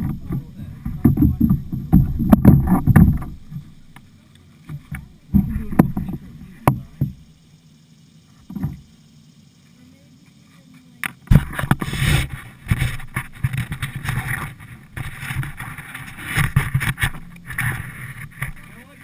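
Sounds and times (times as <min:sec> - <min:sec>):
river water splashing: 0:00.0 - 0:19.0.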